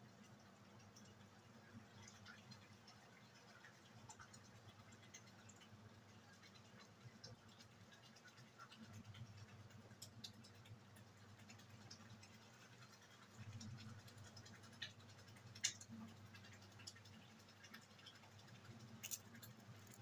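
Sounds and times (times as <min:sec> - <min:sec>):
faint low hum of heating water: 0:00.0 - 0:20.0.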